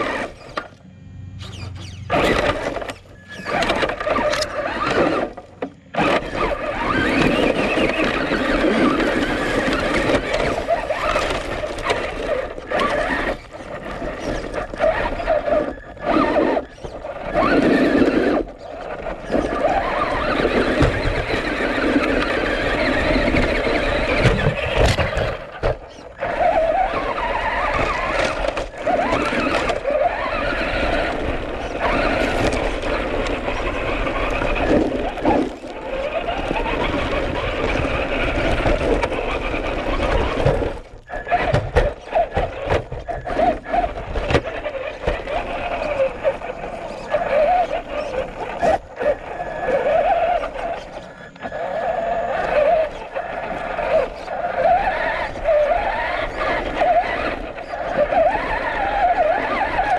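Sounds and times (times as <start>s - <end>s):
toy truck electric motor whining: 0.0s - 59.9s.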